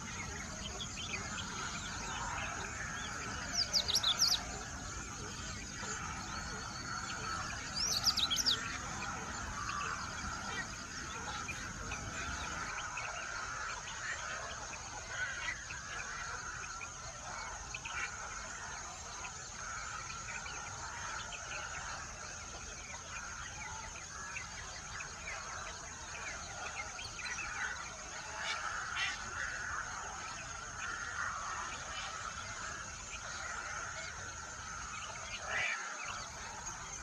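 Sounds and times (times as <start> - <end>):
birds calling and chirping: 0.0 - 37.0.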